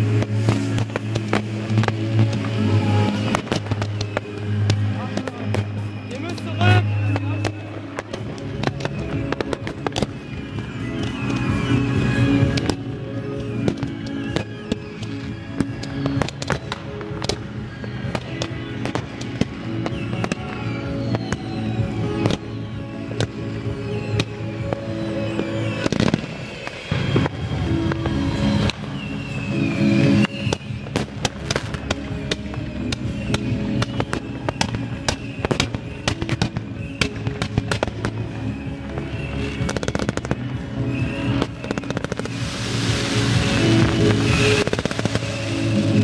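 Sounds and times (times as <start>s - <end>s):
firework bangs: 0.0s - 46.0s
music with long held notes: 0.0s - 46.0s.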